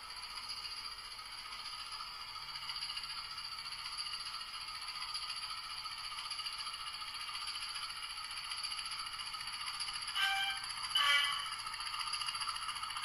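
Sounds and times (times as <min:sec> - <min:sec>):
diesel engine sound from small speaker: 0:00.0 - 0:13.0.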